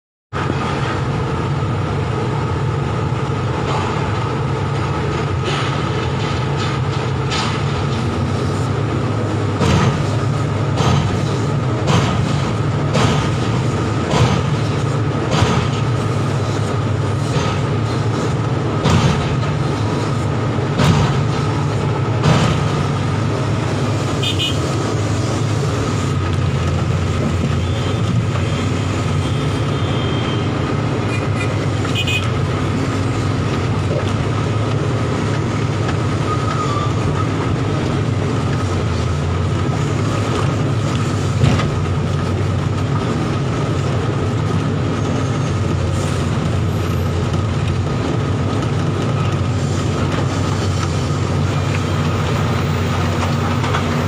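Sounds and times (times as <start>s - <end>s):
heavy diesel machinery rumbling: 0.3s - 54.0s.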